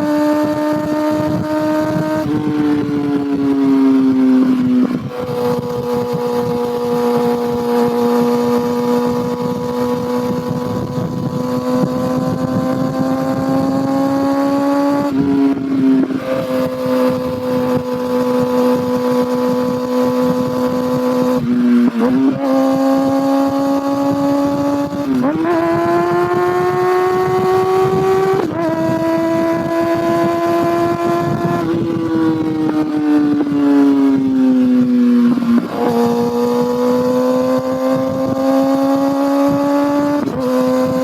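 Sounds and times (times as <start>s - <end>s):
motorcycle engine and exhaust: 0.0s - 41.0s.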